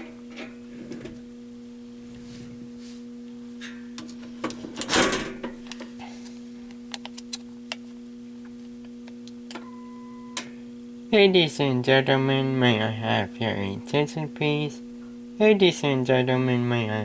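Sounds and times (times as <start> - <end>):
low electronic hum: 0.0 - 17.0.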